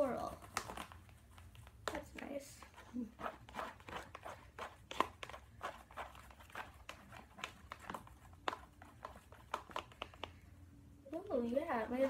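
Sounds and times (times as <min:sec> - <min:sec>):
slime squelching in plastic bowl: 0:00.0 - 0:12.0.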